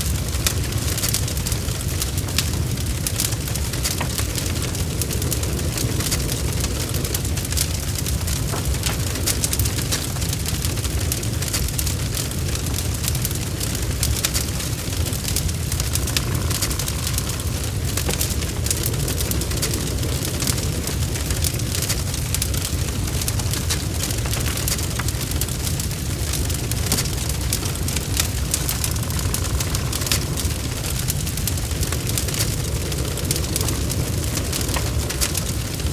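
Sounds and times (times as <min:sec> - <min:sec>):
continuous low rumble: 0:00.0 - 0:35.9
rain pattering: 0:00.0 - 0:35.9
wood fire crackling: 0:00.0 - 0:35.9.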